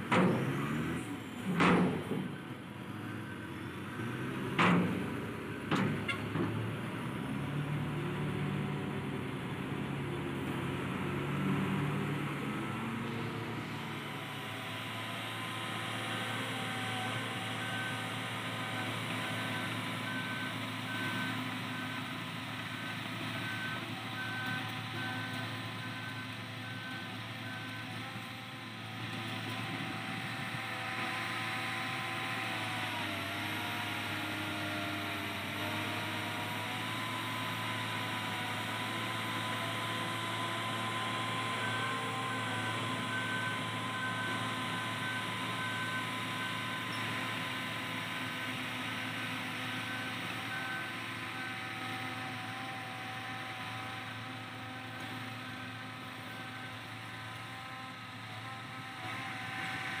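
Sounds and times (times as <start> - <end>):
bulldozer diesel engine running: 0.0 - 60.0.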